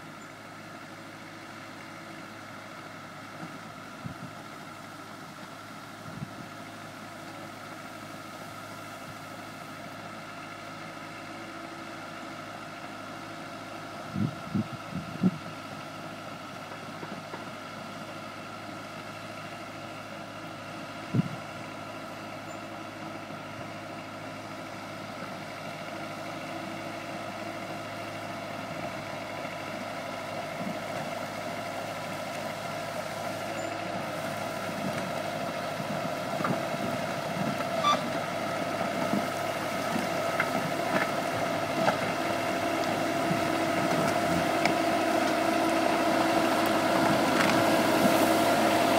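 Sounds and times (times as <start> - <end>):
bulldozer diesel engine whining: 0.0 - 48.9.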